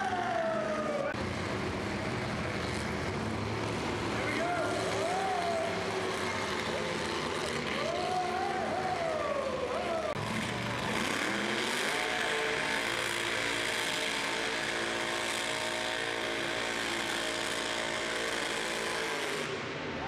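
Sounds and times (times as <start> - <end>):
tires spinning: 0.0 - 20.0
truck engines revving: 0.0 - 20.0.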